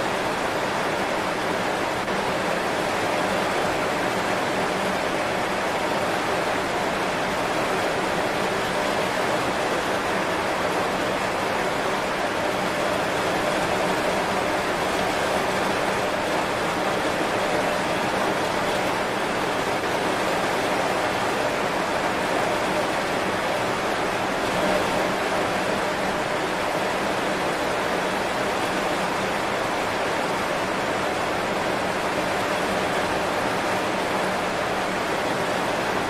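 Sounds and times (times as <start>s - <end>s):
heavy rain on leaves: 0.0s - 36.0s.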